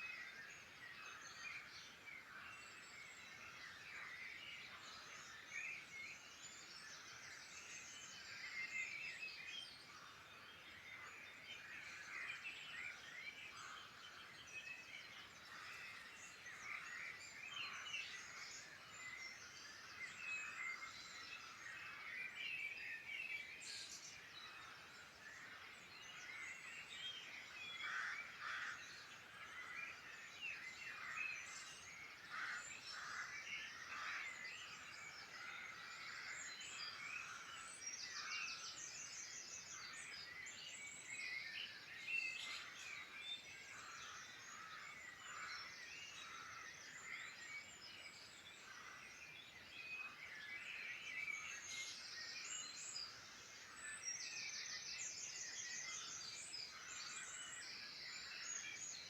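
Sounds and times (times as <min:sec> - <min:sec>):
wild birds singing: 0:00.0 - 0:59.0.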